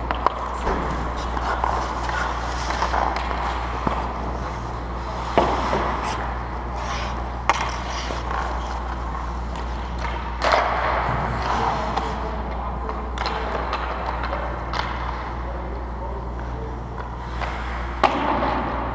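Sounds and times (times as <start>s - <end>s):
skates scraping on ice: 0.0s - 15.2s
hockey sticks and pucks clacking: 0.0s - 18.9s
steady low hum: 0.0s - 18.9s.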